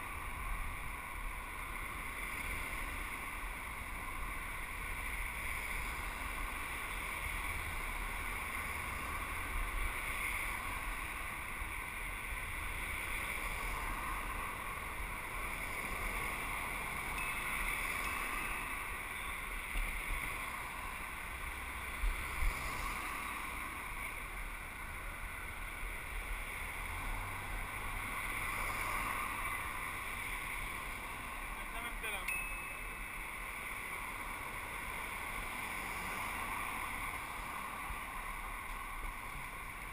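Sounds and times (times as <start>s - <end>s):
rolling road noise: 0.0s - 39.9s.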